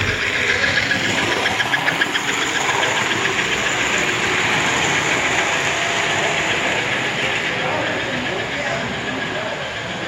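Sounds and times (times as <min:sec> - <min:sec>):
model train rolling rumble: 0:00.0 - 0:10.0.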